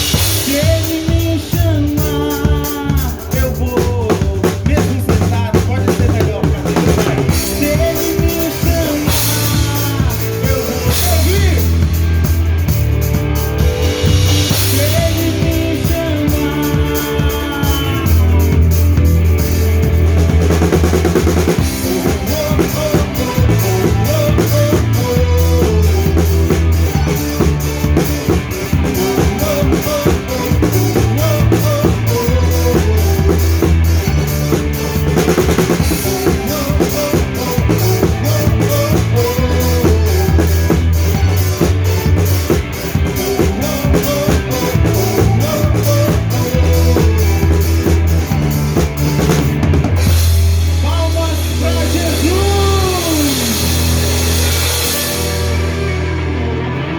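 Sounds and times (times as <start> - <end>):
drum kit steady beat: 0.0 - 56.7
live band playing worship song: 0.0 - 56.9.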